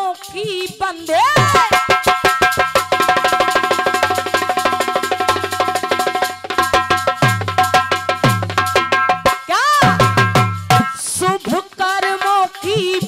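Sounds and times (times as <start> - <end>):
dholak drumming: 0.0 - 13.0.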